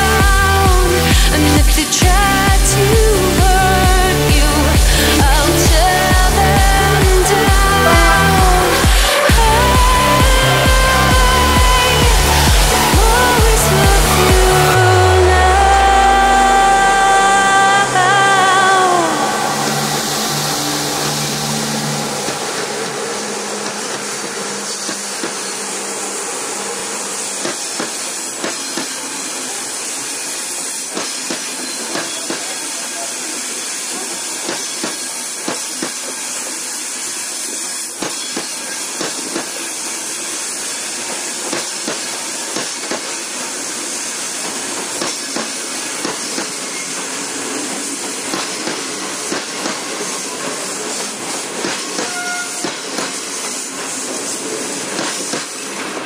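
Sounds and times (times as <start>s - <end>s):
train wheels rushing hiss: 0.0s - 56.0s.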